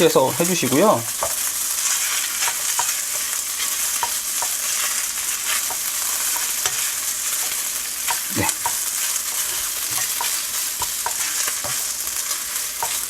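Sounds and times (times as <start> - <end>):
rice sizzling in a hot pan: 0.0 - 13.0
spatula scraping a pan: 0.8 - 13.0.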